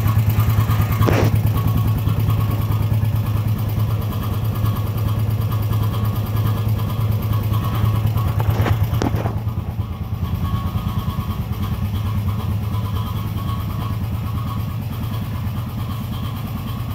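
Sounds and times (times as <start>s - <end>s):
atv engine idling: 0.0s - 16.9s.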